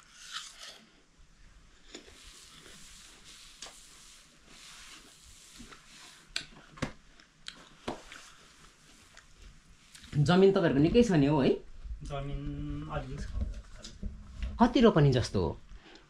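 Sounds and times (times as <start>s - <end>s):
faint steady hiss: 0.7s - 16.0s.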